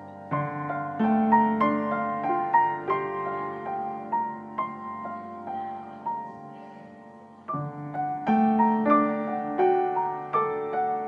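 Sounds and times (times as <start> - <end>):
piano single notes: 0.0 - 11.0.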